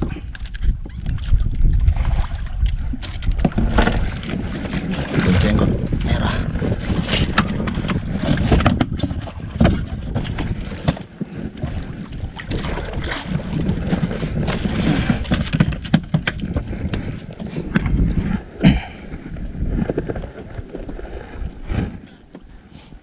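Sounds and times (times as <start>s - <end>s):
wind buffeting microphone: 0.0s - 22.1s.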